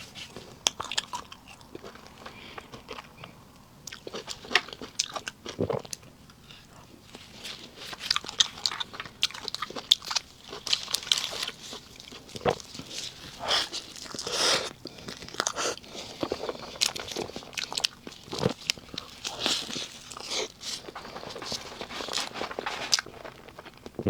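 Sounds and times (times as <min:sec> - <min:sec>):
chewing cake: 0:00.0 - 0:24.0.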